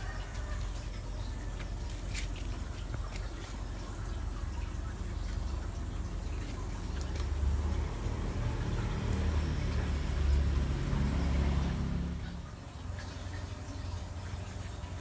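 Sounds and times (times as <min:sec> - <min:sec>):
motor vehicle engine: 0:00.0 - 0:15.0.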